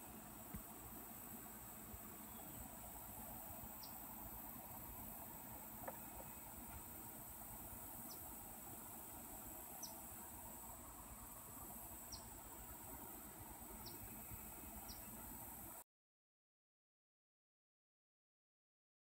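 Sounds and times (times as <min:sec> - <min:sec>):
insects droning: 0:00.0 - 0:15.8.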